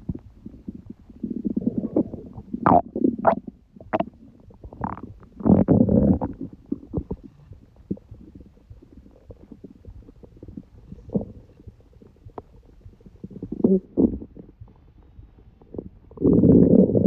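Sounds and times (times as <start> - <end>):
stomach gurgling: 0.0 - 17.0.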